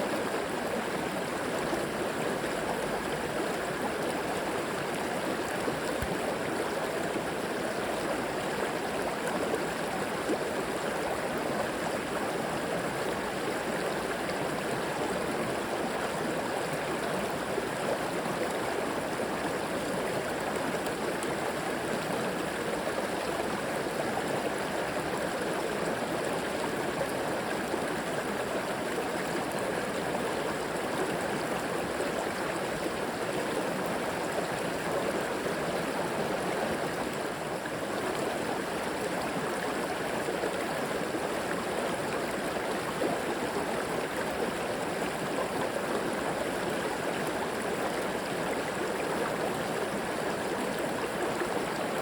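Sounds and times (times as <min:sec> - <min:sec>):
river water flowing over rocks: 0:00.0 - 0:52.0.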